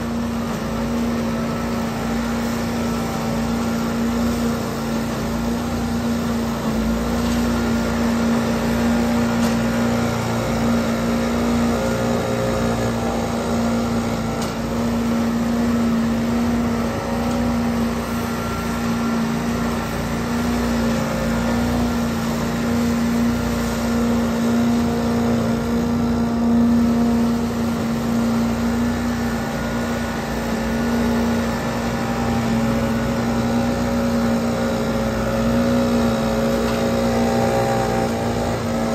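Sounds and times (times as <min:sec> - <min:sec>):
backpack leaf blower running: 0:00.0 - 0:38.9
leaf vacuum droning: 0:00.0 - 0:38.9.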